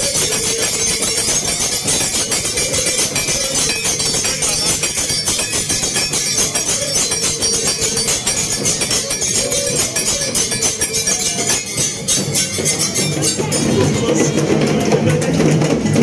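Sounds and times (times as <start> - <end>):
held note: 0.0 - 14.8
rattling clinking percussion: 0.0 - 16.0.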